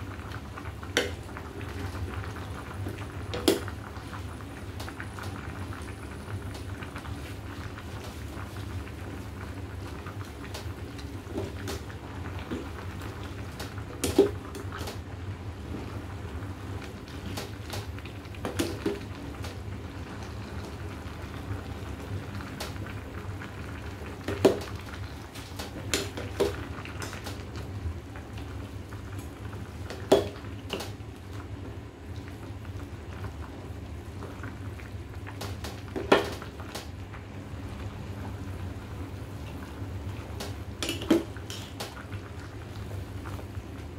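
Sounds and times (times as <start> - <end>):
soup bubbling in a pot: 0.0 - 43.9.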